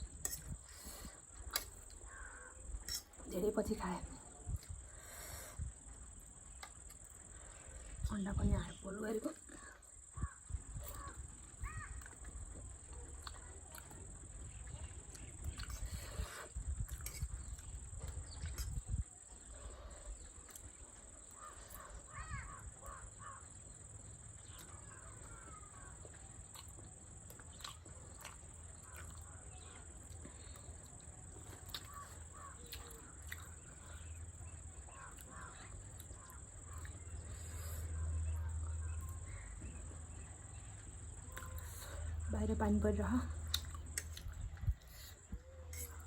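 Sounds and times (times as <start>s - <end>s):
faint birds calling: 0.7s - 3.2s, 4.1s - 46.0s.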